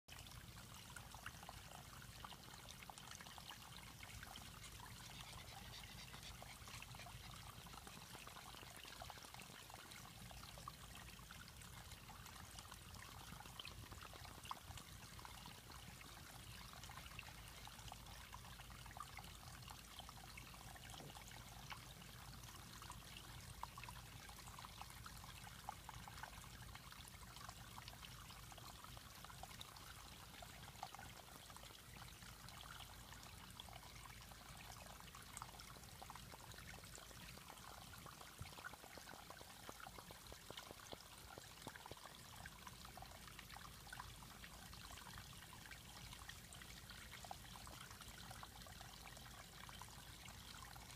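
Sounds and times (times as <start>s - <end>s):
small waterfall trickling into pond: 0.0s - 50.9s.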